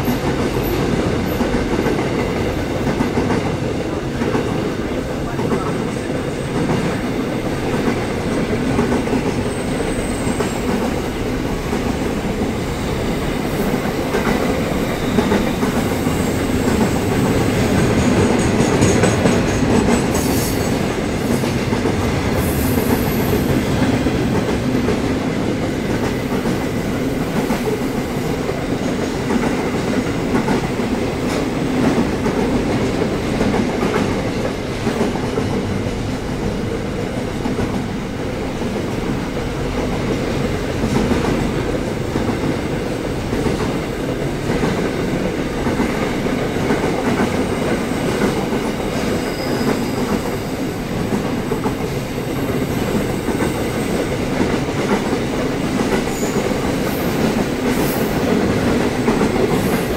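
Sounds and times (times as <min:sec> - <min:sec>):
train wheels rumbling over rails: 0:00.0 - 0:59.9.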